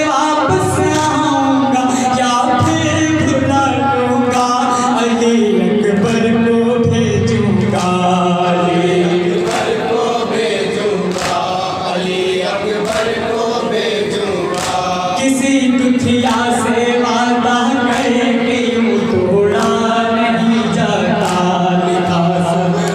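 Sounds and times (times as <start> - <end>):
men chanting in chorus: 0.0 - 22.9.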